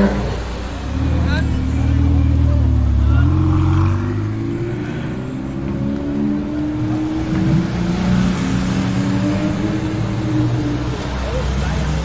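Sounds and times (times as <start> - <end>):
car engines passing slowly: 0.0 - 12.0.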